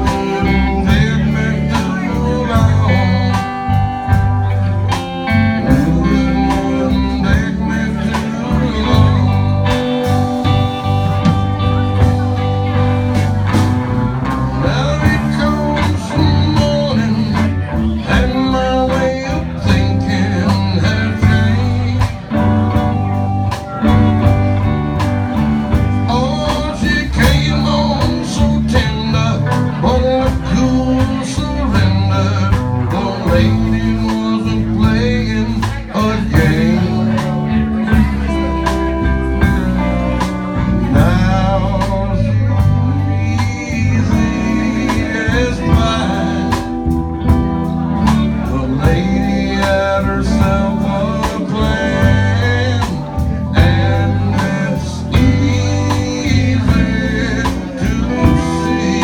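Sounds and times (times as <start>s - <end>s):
guitar: 0.0s - 59.0s
live blues band playing: 0.0s - 59.0s.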